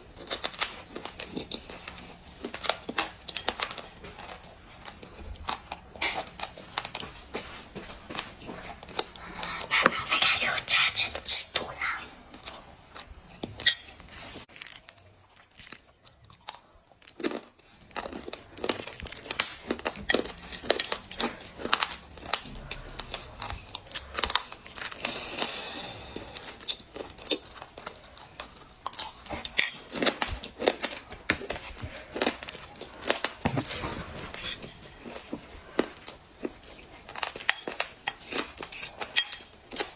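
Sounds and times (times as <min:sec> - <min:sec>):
dry clay crunching when chewed: 0:00.0 - 0:39.9.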